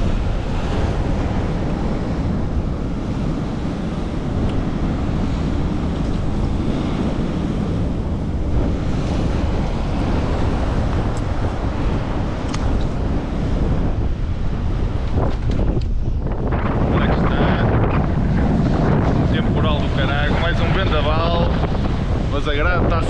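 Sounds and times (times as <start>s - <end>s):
sea surf on rocks: 0.0s - 23.0s
wind buffeting microphone: 0.0s - 23.0s.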